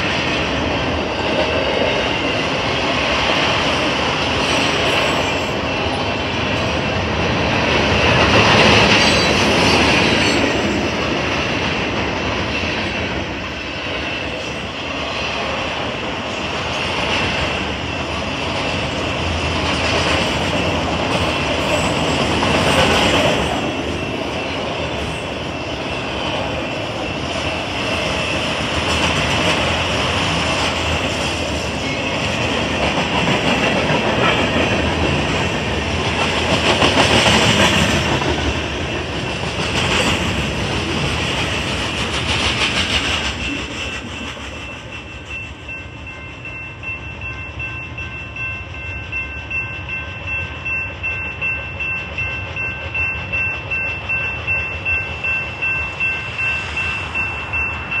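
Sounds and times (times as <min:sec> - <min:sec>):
railroad crossing bell ringing: 0:00.0 - 0:58.0
train wheels clattering on rails: 0:00.0 - 0:58.0.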